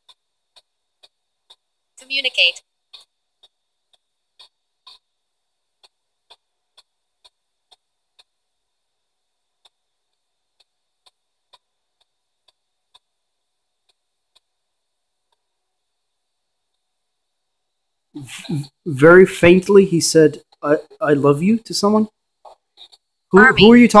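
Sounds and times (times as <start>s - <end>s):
low radio hiss: 0.0s - 24.0s.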